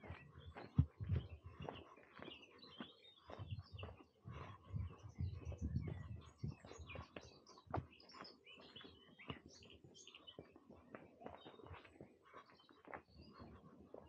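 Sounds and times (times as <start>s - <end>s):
footsteps on a path: 0.0s - 14.0s
small birds chirping: 0.0s - 14.0s.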